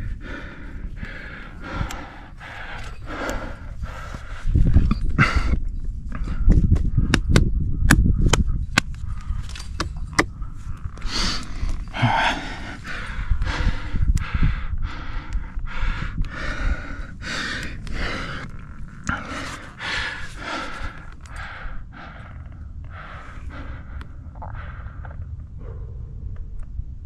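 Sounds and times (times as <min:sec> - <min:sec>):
person breathing hard: 0:00.0 - 0:07.3, 0:09.0 - 0:25.9.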